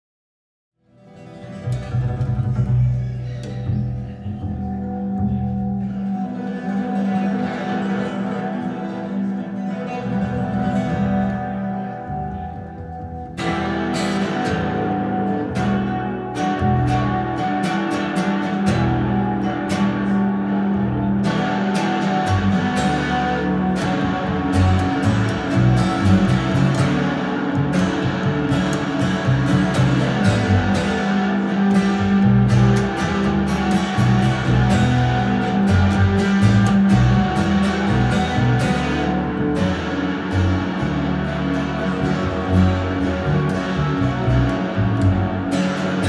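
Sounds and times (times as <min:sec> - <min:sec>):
acoustic guitar picking: 0:00.8 - 0:46.0
double bass plucked: 0:01.1 - 0:46.0.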